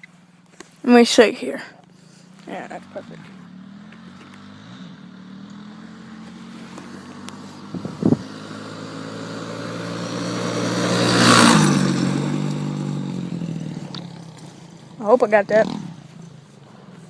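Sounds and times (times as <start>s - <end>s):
dirt bike engine passing: 0.9s - 17.0s.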